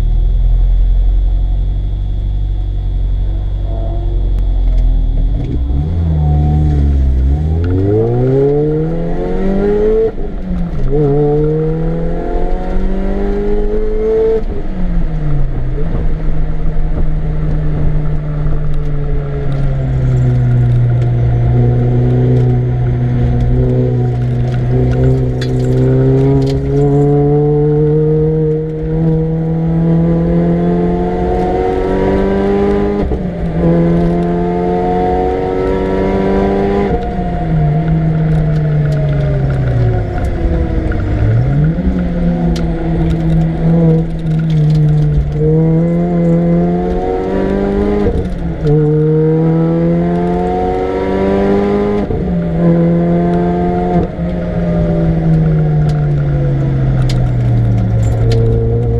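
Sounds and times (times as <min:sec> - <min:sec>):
car engine revving hard: 0:05.5 - 0:14.5, 0:20.0 - 0:58.9.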